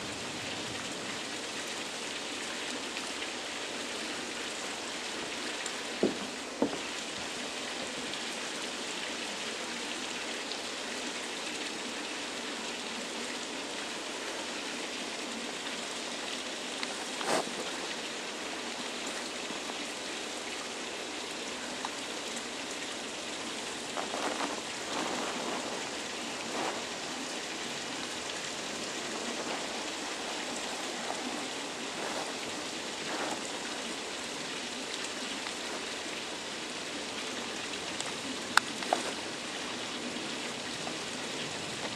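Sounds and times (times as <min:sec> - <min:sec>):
falling water: 0:00.0 - 0:41.9.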